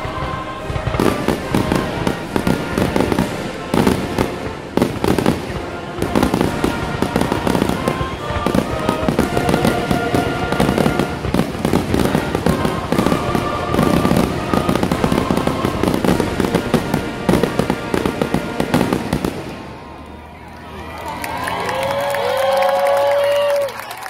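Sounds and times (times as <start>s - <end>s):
fireworks bangs: 0.0s - 20.3s
fireworks whistling: 0.0s - 20.3s.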